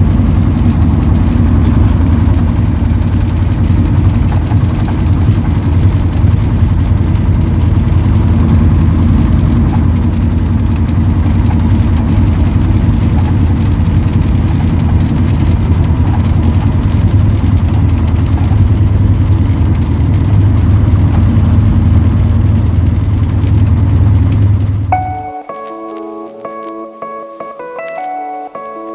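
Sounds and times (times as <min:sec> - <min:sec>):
bus diesel engine running: 0:00.0 - 0:26.7.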